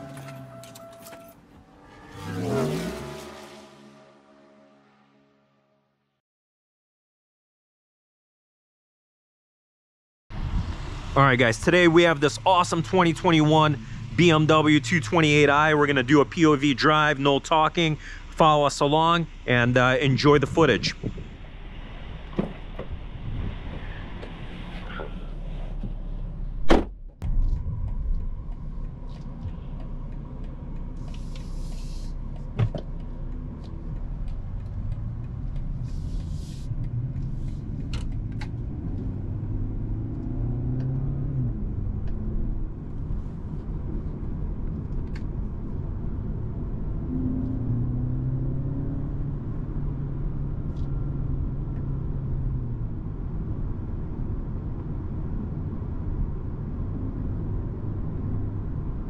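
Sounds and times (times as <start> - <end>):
car engine driving: 0.0 - 5.5, 10.3 - 59.0
low road rumble: 0.0 - 6.2, 10.3 - 59.0.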